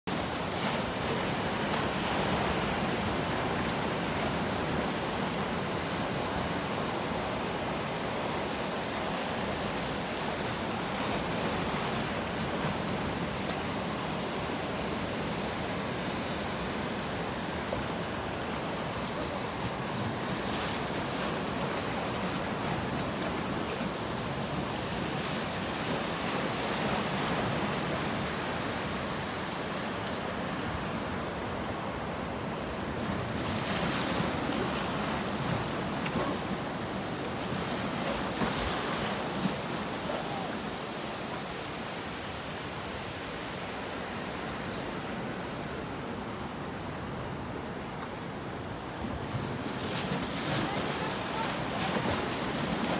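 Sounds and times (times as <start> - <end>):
small waves breaking: 0.1 - 52.9.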